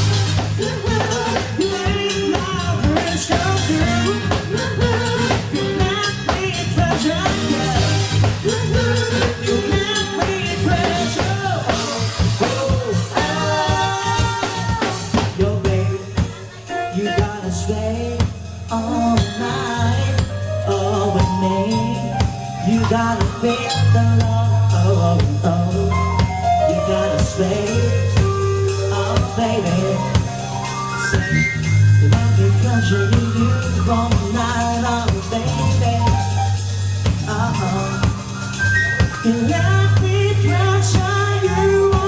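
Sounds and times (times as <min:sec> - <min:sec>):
live band dance song: 0:00.0 - 0:42.0
person singing: 0:00.4 - 0:30.4, 0:32.0 - 0:38.3, 0:38.9 - 0:42.0.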